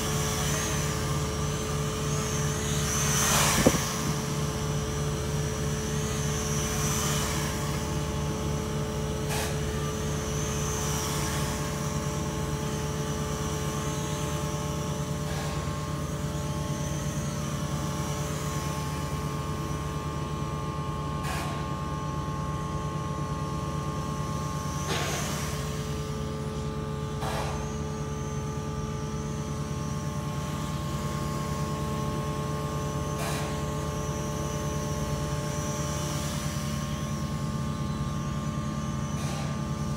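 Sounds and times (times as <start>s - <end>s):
high wavering whine: 0.0s - 39.9s
steady mechanical hum: 0.0s - 39.9s.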